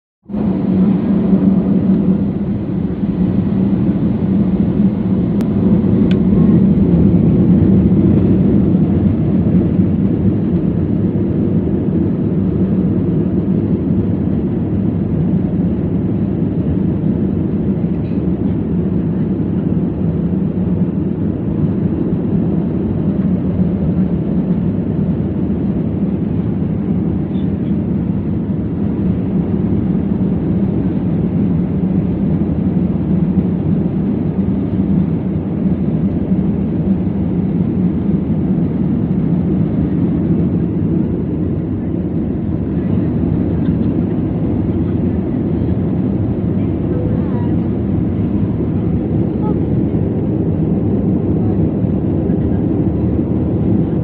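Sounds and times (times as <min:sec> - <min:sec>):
jet engines rumbling in cabin: 0:00.2 - 0:54.0.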